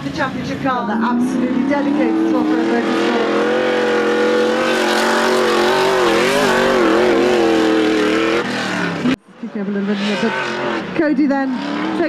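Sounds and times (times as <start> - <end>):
racing buggy engine revving: 0.0 - 12.0.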